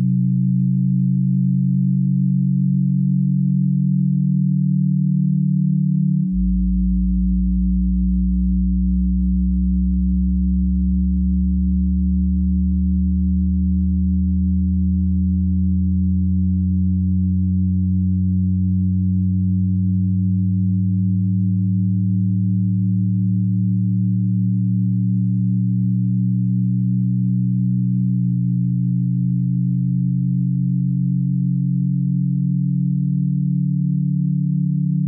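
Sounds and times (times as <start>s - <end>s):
electronic drone of low tones: 0.0s - 35.0s.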